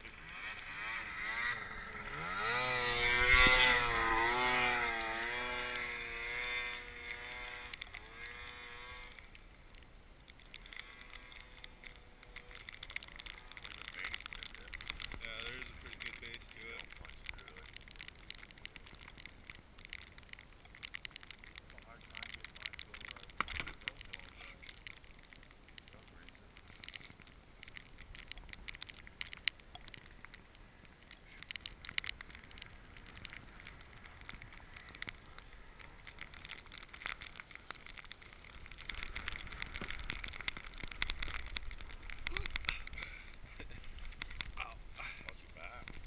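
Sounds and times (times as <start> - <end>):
crackling and rustling at microphone: 0.0 - 46.0.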